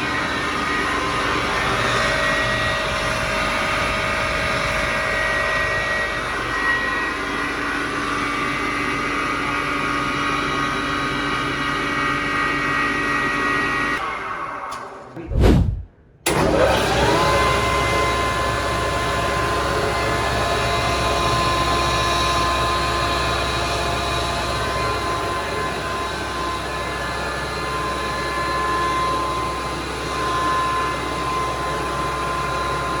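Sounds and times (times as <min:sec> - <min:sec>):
rice mill machine running: 0:00.0 - 0:15.0, 0:16.3 - 0:33.0.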